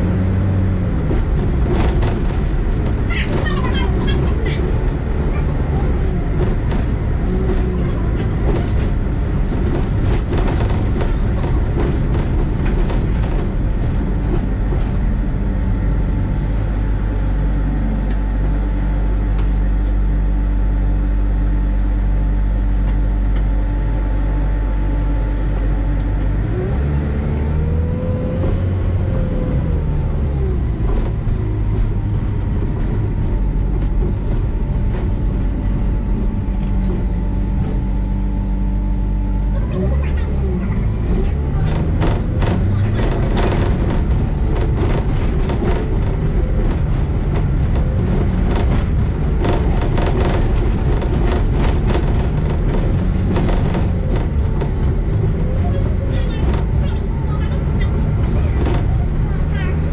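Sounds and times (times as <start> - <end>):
bus engine droning: 0.0 - 59.9.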